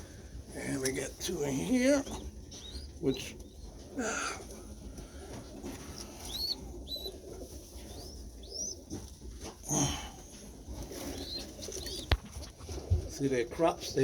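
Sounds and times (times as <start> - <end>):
young pigeons peeping: 0.0 - 14.0.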